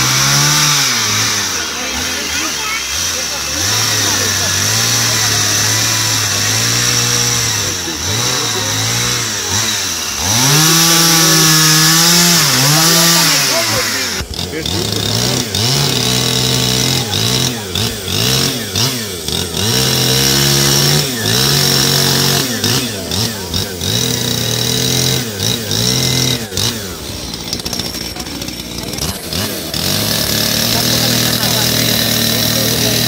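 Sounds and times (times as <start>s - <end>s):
chainsaw revving while cutting wood: 0.0s - 33.0s.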